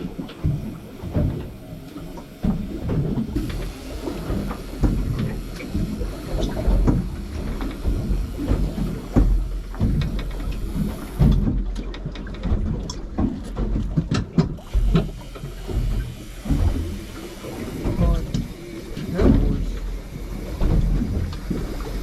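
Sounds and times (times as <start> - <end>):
thumps and knocks on boat: 0.0 - 22.0
water slapping boat hull: 0.0 - 22.0.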